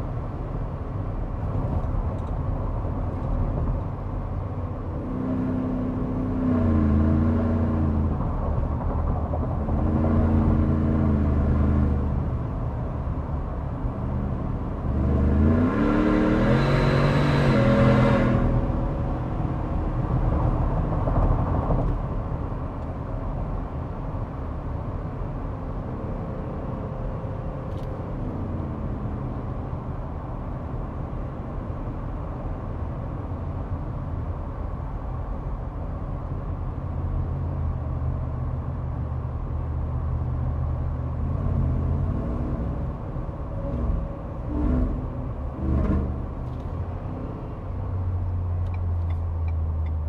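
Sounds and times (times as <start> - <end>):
car cabin road rumble: 0.0 - 50.0.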